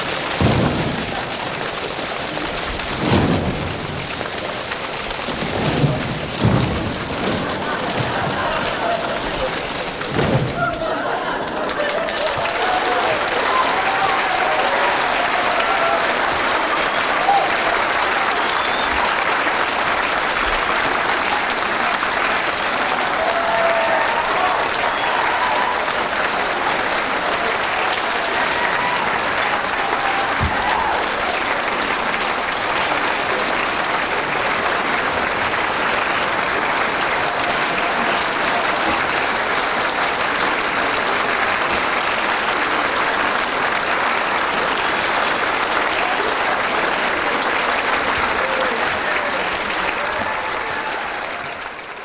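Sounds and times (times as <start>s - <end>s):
audience applauding: 0.0s - 52.0s.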